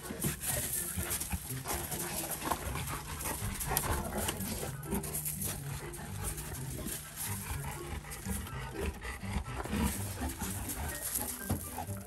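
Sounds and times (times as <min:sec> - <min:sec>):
dogs growling while play-fighting: 0:00.0 - 0:12.0
paws scrabbling on gravel: 0:00.0 - 0:12.0.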